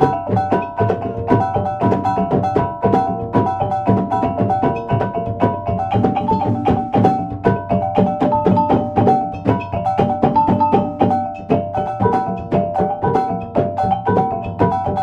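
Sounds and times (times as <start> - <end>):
drums: 0.0 - 15.0
tuned percussion playing fast pattern: 0.0 - 15.0.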